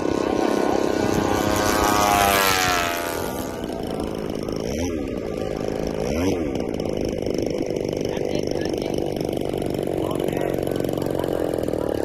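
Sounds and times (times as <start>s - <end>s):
model plane engine fly-by: 0.0s - 12.0s.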